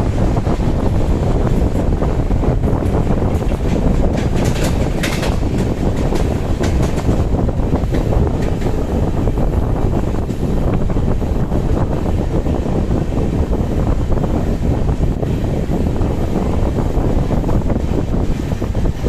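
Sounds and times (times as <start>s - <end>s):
train rumbling: 0.0s - 19.0s
wind buffeting microphone: 0.0s - 19.0s.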